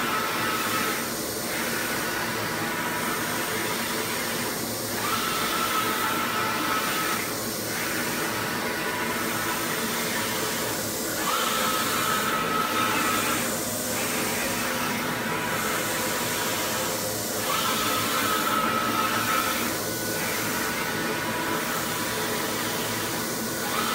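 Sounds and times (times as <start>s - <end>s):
printer fan hiss: 0.0s - 23.9s.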